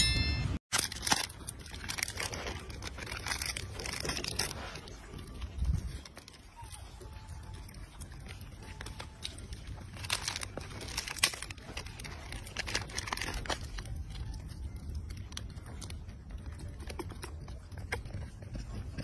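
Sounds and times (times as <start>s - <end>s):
plastic wrapper crinkling and tearing: 0.7s - 18.3s.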